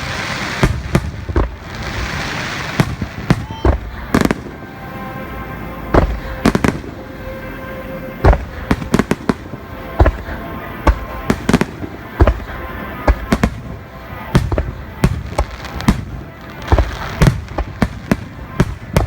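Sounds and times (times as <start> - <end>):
faint music: 0.0 - 19.0
fireworks bangs: 0.0 - 19.0.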